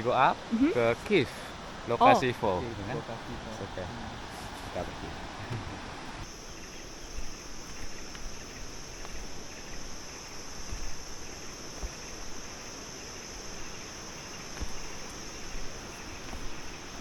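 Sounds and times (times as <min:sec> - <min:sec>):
insects droning: 0:00.0 - 0:17.0
soft outdoor hiss: 0:00.0 - 0:17.0.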